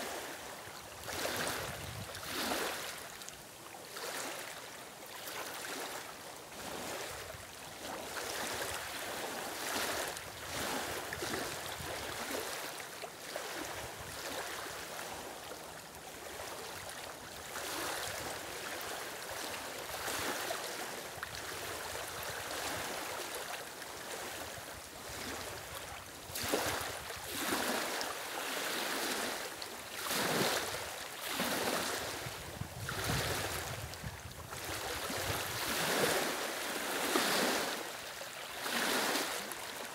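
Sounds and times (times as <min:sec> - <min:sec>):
small waves lapping on stones: 0:00.0 - 0:39.9.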